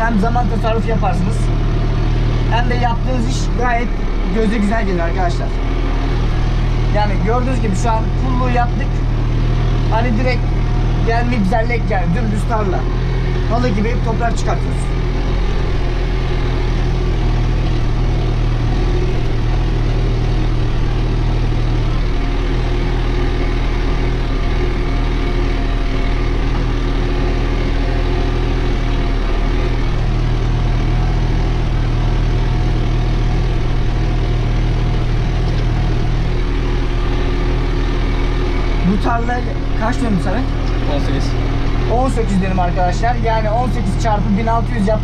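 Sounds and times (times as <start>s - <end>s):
tractor diesel engine under load: 0.0s - 45.0s.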